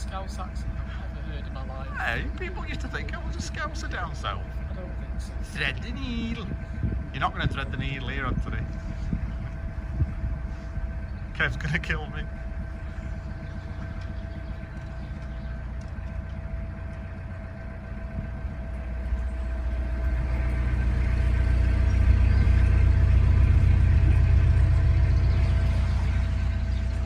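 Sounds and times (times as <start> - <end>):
diesel boat engine rumbling: 0.0 - 27.0.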